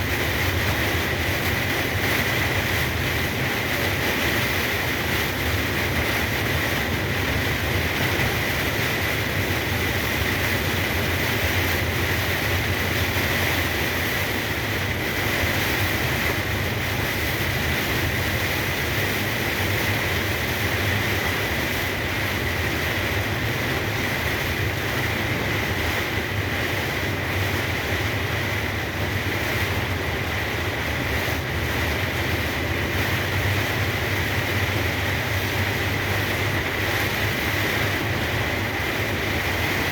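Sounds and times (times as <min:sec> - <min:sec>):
rain and wet tyres hissing: 0:00.0 - 0:39.9
truck engine and road rumble: 0:00.0 - 0:39.9.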